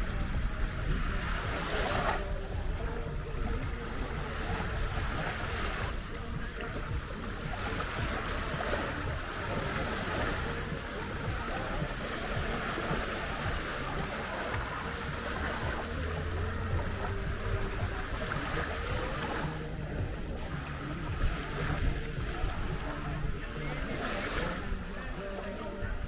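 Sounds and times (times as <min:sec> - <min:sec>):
waves washing on sand: 0:00.0 - 0:26.0
wind rumbling on microphone: 0:00.0 - 0:26.0.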